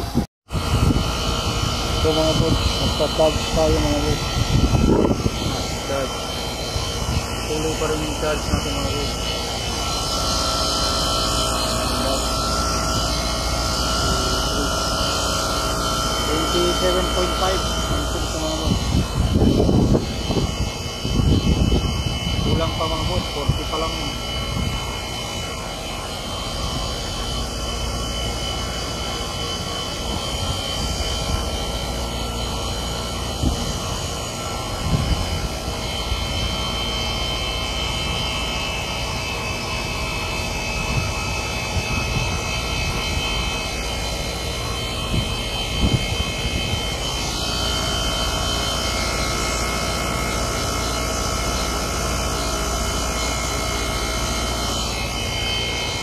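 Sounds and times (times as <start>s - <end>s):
air conditioner unit running: 0.0s - 56.0s
higher steady tone: 0.0s - 56.0s.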